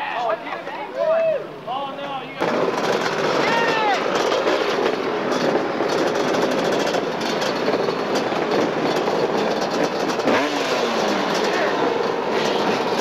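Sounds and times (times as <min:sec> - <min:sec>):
motocross bike engines running: 0:01.6 - 0:13.0.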